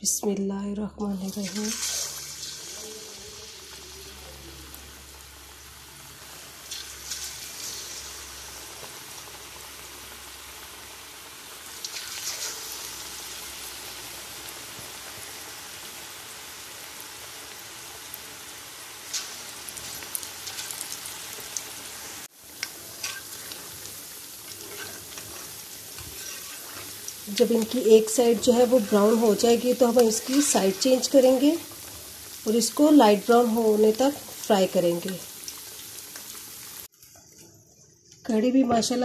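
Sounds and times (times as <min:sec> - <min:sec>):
batter sizzling in hot oil: 0:01.1 - 0:37.1.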